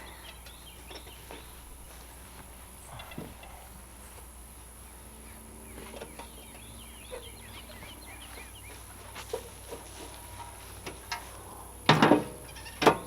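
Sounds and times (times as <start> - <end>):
chickens chirping: 0.0 - 11.8.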